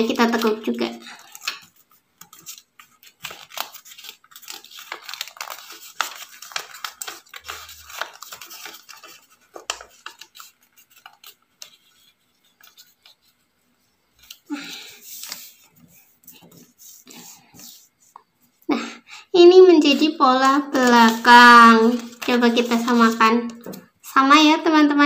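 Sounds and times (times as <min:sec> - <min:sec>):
paper rustling and crinkling: 0:00.0 - 0:13.5, 0:14.2 - 0:18.5, 0:20.4 - 0:24.2.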